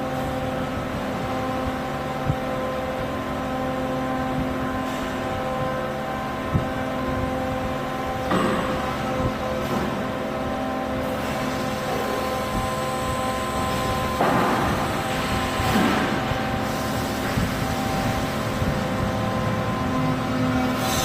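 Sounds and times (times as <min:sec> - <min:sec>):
machine mechanical hum: 0:00.0 - 0:21.0.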